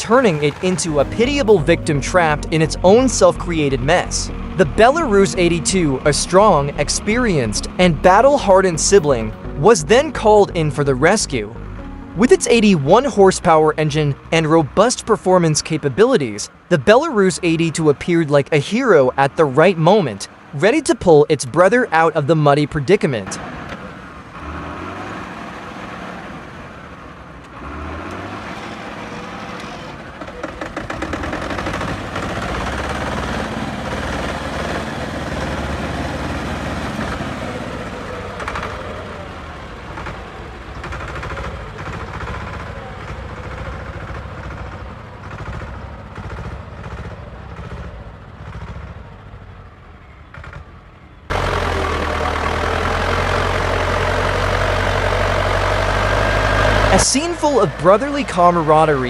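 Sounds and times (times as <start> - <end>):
diesel tractor engines running: 0.0 - 59.0.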